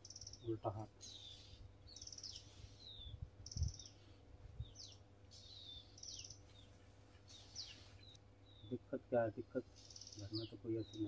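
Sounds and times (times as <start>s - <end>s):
birds whistling and chirping: 0.0s - 8.7s, 9.6s - 11.0s.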